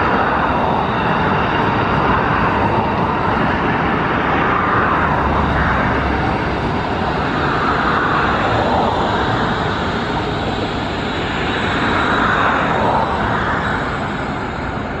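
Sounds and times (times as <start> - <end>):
high-speed train rushing past: 0.0 - 15.0.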